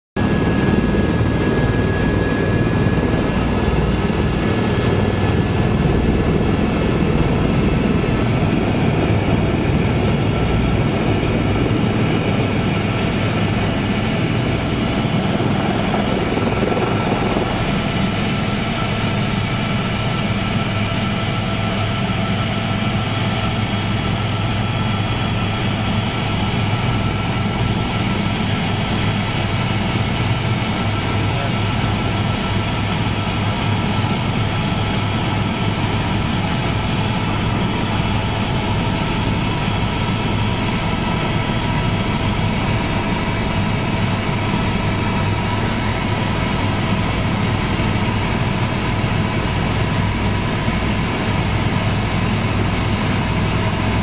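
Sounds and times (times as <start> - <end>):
helicopter engine and rotor rumble: 0.2 - 54.0.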